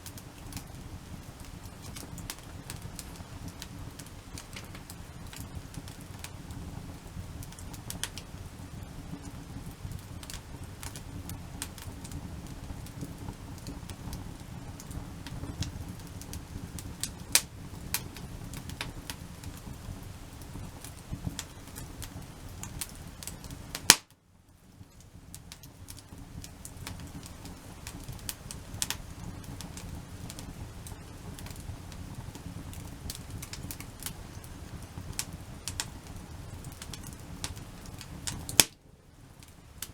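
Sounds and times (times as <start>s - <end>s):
campfire crackling: 0.0s - 39.9s
low fire rumble: 0.0s - 39.9s.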